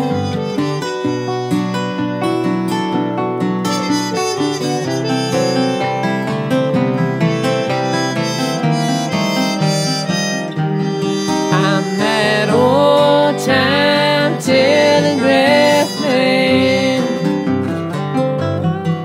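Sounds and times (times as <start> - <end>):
acoustic guitar: 0.0 - 19.0
harmonica melody: 0.0 - 19.0.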